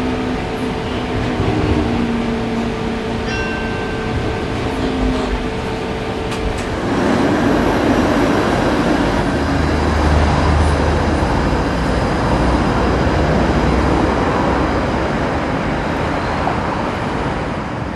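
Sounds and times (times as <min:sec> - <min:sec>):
road traffic rumble: 0:00.0 - 0:17.9
streetcar cabin hum: 0:00.0 - 0:17.9
streetcar running on track: 0:00.0 - 0:17.9.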